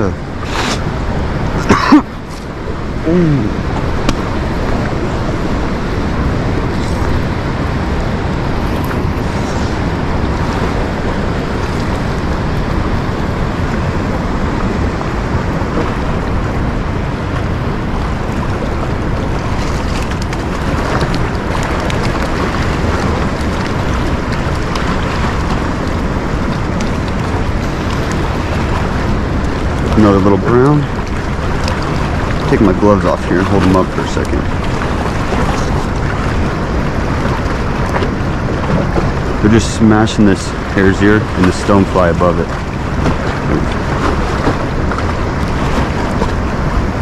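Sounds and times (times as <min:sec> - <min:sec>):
river water rushing: 0:00.0 - 0:47.0
wind buffeting microphone: 0:00.0 - 0:47.0.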